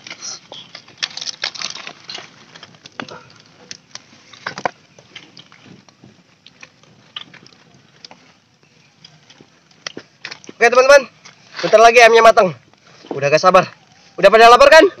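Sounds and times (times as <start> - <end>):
open fire crackling and popping: 0.0 - 15.0.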